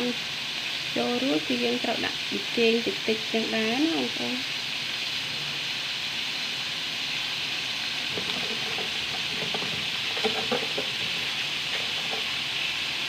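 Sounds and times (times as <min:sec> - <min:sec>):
chicken sizzling in a wok: 0:00.0 - 0:13.0.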